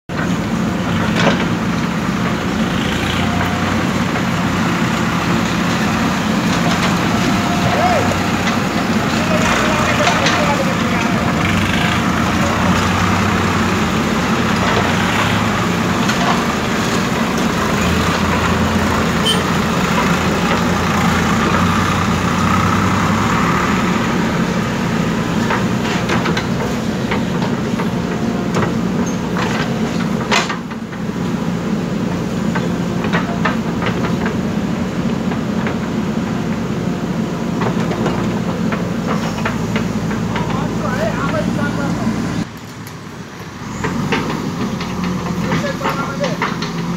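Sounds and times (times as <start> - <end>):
knocks and clanks: 0.1 - 23.0, 24.1 - 31.2, 32.5 - 34.5, 37.5 - 41.9, 43.7 - 46.9
backhoe diesel engine running: 0.1 - 46.9
passing tractor engine hum: 0.1 - 46.9.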